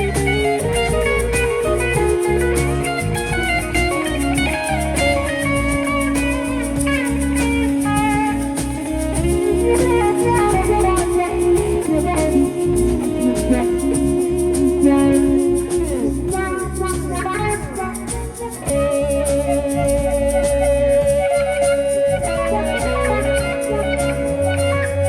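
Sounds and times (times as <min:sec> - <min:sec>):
guitar lines: 0:00.0 - 0:25.0
shaker rhythm: 0:00.0 - 0:25.0
sliding guitar notes: 0:00.0 - 0:25.0.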